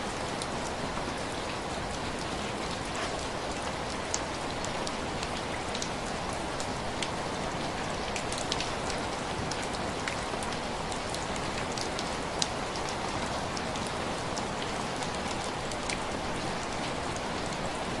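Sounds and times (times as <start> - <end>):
rain on a glass window: 0.0 - 18.0.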